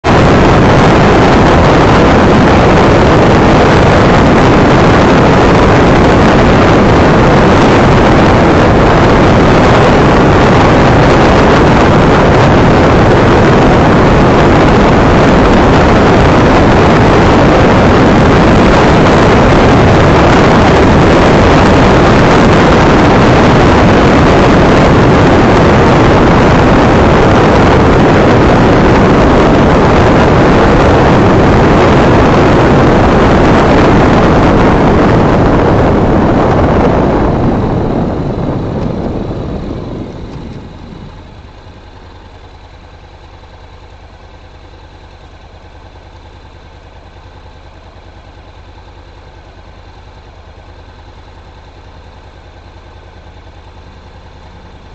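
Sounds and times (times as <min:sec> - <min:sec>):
motorcycle engine: 0:00.0 - 0:54.9
wind rushing on microphone: 0:00.0 - 0:54.9.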